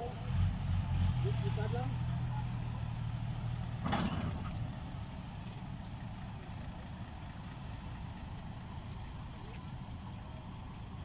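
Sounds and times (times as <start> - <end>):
distant truck engines rumbling: 0.0 - 11.0.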